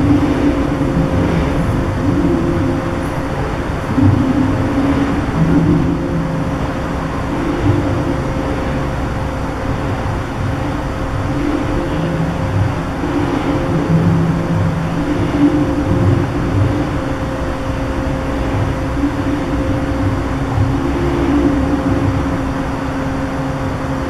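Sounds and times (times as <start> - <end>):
shake table mechanical rumble: 0.0 - 24.0.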